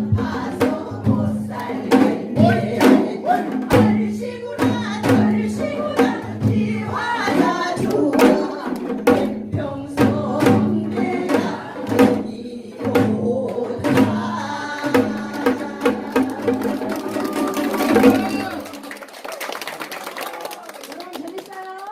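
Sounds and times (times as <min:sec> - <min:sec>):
person singing to music: 0:00.0 - 0:18.7.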